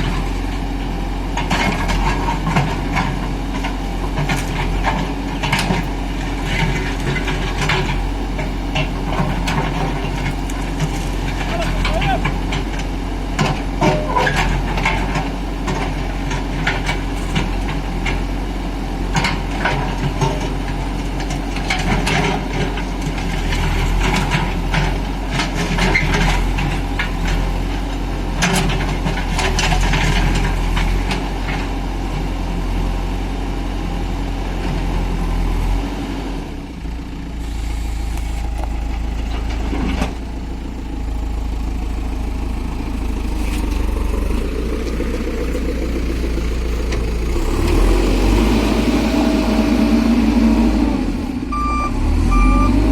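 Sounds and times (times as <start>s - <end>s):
diesel machinery engine running: 0.0s - 52.9s.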